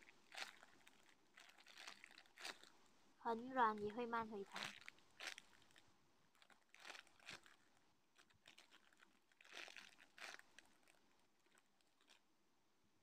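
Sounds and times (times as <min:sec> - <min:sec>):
squishy toy crinkling: 0:00.0 - 0:02.8, 0:03.6 - 0:12.2.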